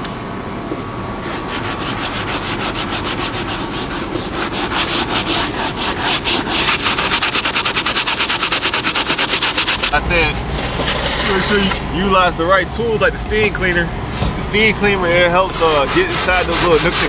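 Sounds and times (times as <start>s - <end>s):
scrub brush scrubbing plastic: 1.2s - 12.2s, 13.1s - 17.0s.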